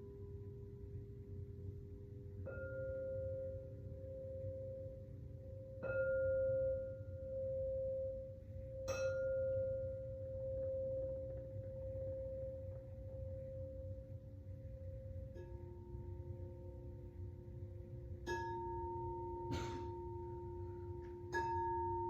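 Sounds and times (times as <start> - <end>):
lower-pitched singing bowl: 0.0 - 22.0
singing bowl ringing: 2.4 - 22.0.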